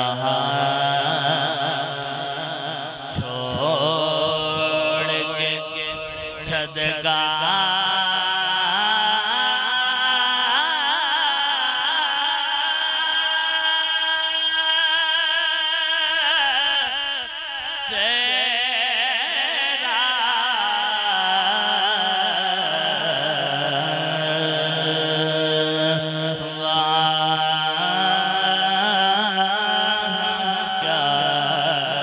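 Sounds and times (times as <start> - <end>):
man singing unaccompanied: 0.0 - 17.2, 17.8 - 32.0.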